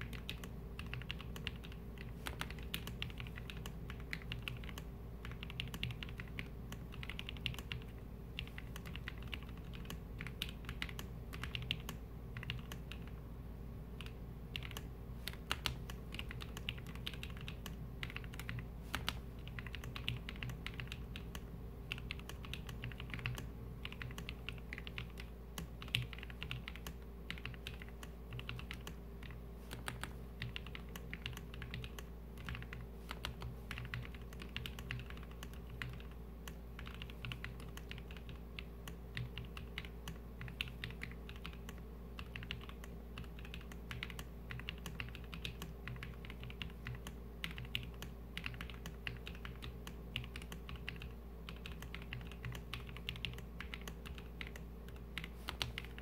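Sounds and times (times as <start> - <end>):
mechanical keyboard typing: 0.0 - 13.2, 14.0 - 56.0.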